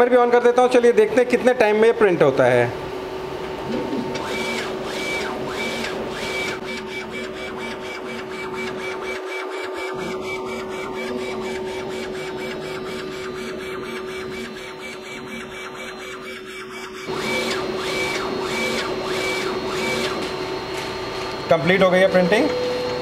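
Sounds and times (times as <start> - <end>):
printer carriage humming: 0.8 - 23.0.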